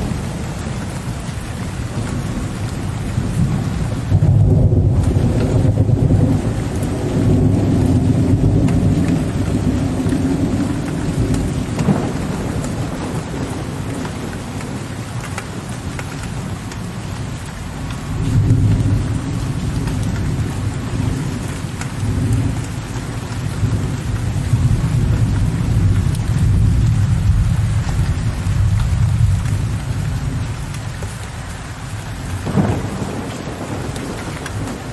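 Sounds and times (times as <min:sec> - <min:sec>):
deep thunder rumbling: 0:00.0 - 0:15.0, 0:17.7 - 0:31.3, 0:31.9 - 0:34.9
steady rain: 0:00.0 - 0:34.9.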